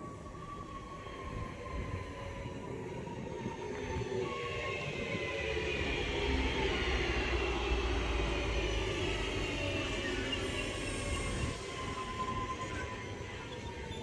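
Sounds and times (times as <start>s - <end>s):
train electric whine: 0.0s - 14.0s
wheels rumbling on rail: 0.0s - 14.0s.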